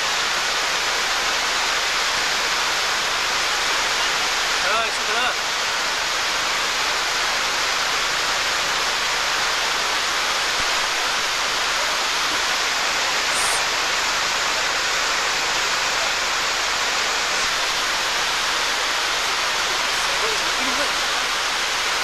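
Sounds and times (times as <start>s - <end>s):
white water rushing: 0.0s - 22.0s.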